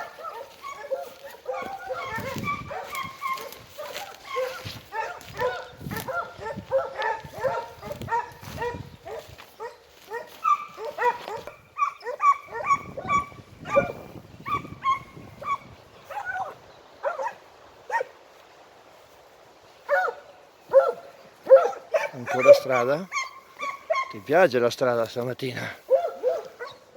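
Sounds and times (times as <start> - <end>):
hounds barking and baying: 0.0 - 18.4, 19.8 - 24.5, 25.6 - 26.9.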